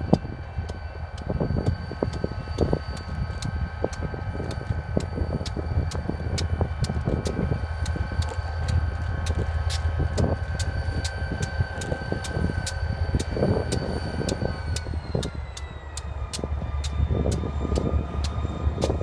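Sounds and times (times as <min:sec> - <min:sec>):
faint high whine: 0:00.0 - 0:19.0
low rumble: 0:00.0 - 0:19.0
wind buffeting microphone: 0:00.0 - 0:19.0.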